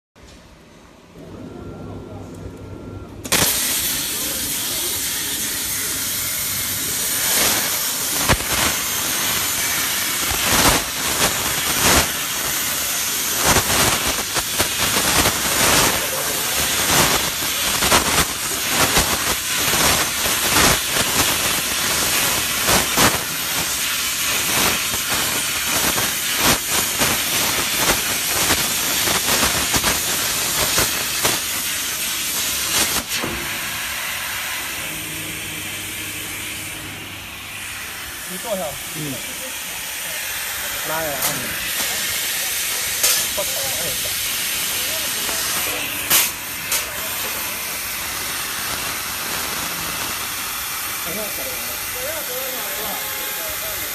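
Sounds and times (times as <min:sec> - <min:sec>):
plasma torch hissing and crackling: 0:03.2 - 0:53.9.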